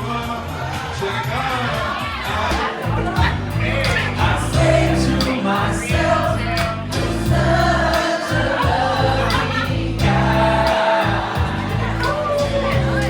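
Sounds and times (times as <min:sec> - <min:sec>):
song with singing voices: 0:00.0 - 0:13.0.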